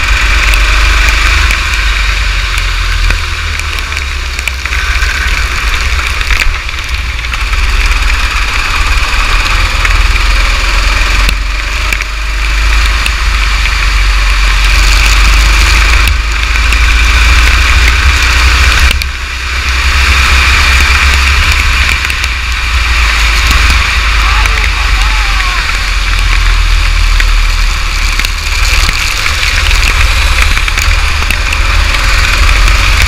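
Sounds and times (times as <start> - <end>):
kart engine running: 0.0 - 33.0
rain noise: 0.0 - 33.0.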